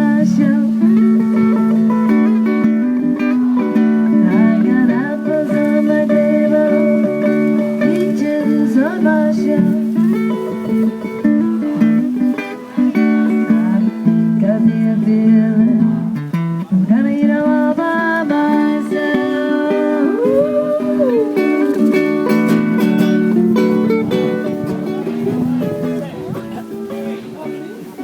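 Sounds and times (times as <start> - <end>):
acoustic guitar music: 0.0 - 28.0.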